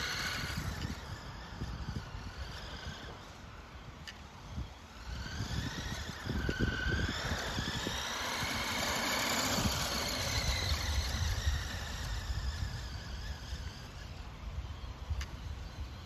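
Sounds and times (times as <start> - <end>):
toy truck electric motor whining: 0.0 - 16.0.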